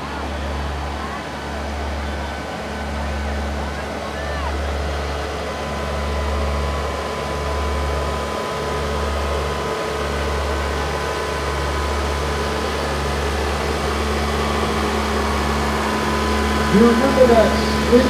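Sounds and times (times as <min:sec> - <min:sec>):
constant hum: 0:00.0 - 0:18.0
farm machine engine drone: 0:00.0 - 0:18.0.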